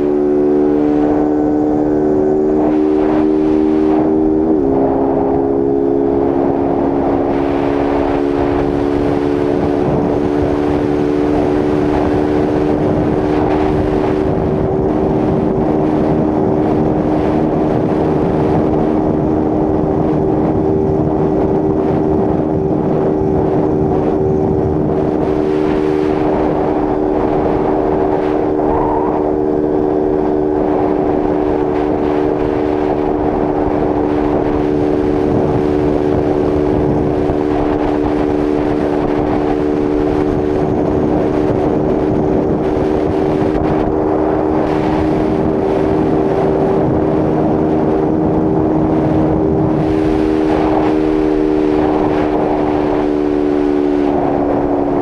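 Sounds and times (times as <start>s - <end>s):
motorcycle engine at high revs: 0.0s - 55.0s
wind rushing over microphone: 0.0s - 55.0s.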